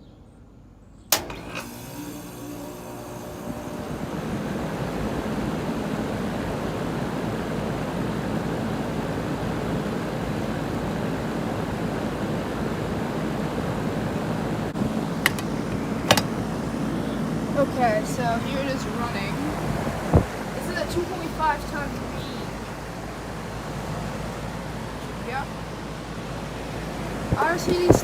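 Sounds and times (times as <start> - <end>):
air conditioner unit humming: 0.0 - 28.0.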